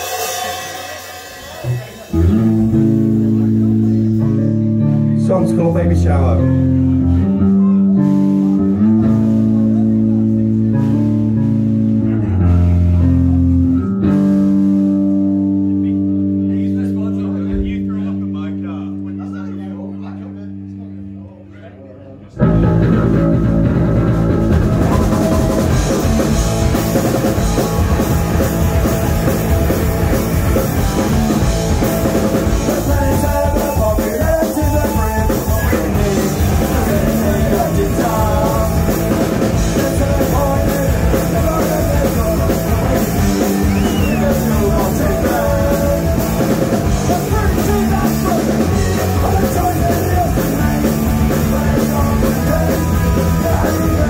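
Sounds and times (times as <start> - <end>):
drum kit: 0.0 - 5.6, 7.9 - 16.4, 22.4 - 54.0
electric guitar: 0.0 - 21.4, 22.4 - 54.0
bass guitar: 0.0 - 54.0.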